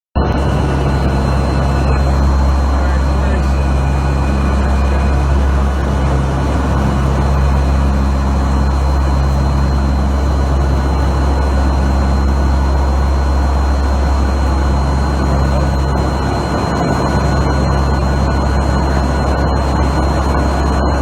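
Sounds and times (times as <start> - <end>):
aircraft engines droning in cabin: 0.2 - 21.0
rushing air noise: 0.2 - 21.0.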